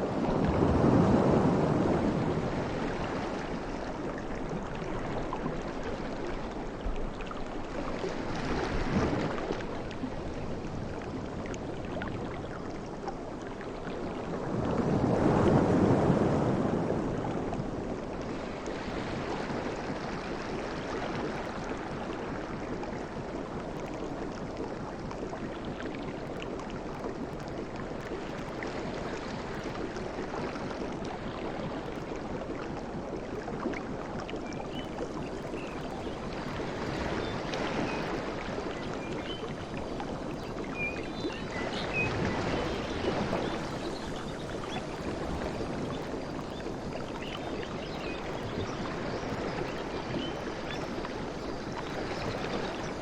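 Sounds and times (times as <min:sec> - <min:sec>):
sea waves washing on shore: 0:00.0 - 0:53.0.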